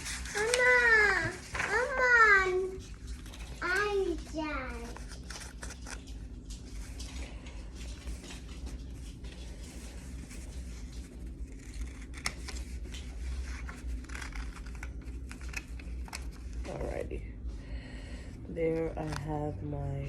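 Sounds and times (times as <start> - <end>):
scissors cutting paper: 0.0 - 7.0, 7.9 - 16.9.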